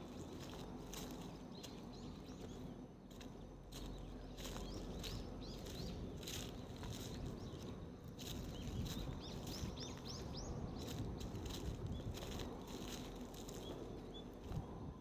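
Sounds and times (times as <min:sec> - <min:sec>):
footsteps on a path: 0:00.0 - 0:14.8
small bird chirping: 0:00.1 - 0:14.5.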